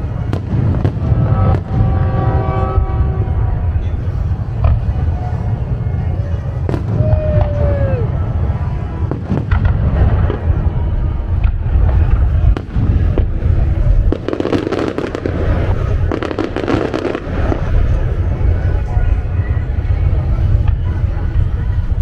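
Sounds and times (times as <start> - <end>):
fireworks bangs: 0.0 - 22.0
fireworks rumble: 0.0 - 22.0.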